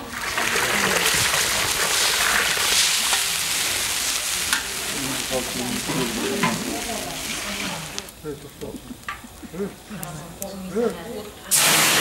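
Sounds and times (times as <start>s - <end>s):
porridge sizzling in a cauldron: 0.0s - 12.0s.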